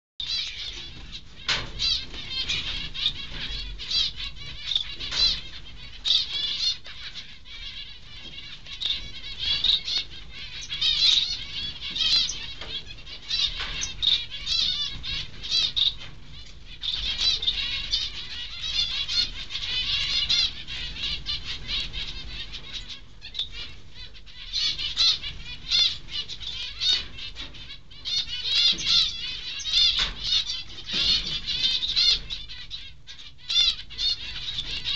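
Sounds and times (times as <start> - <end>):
finches chirping: 0.2 - 34.9.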